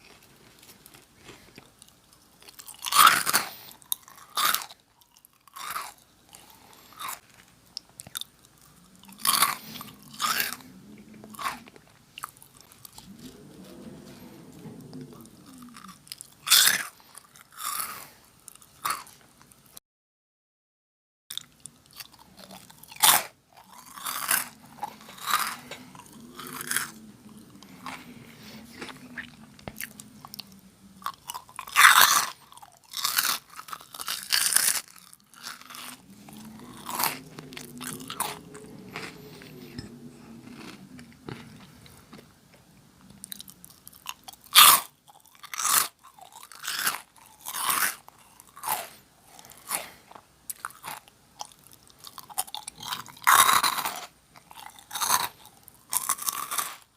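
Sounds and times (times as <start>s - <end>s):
crunching and chewing snack: 0.0s - 19.7s, 21.3s - 56.9s.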